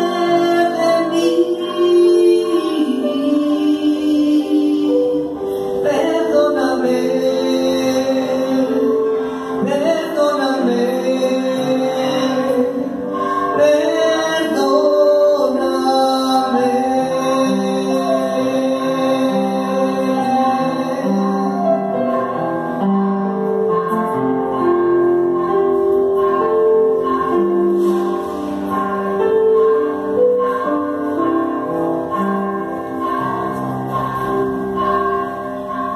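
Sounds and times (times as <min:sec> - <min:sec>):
electronic keyboard: 0:00.0 - 0:35.9
person singing a hymn: 0:00.0 - 0:35.9.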